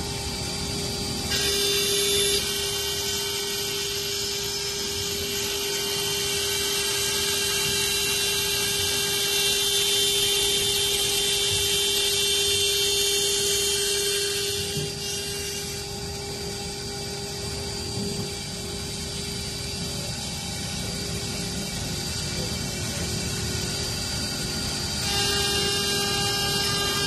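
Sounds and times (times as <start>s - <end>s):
milling spindle high whine: 0.0s - 27.0s.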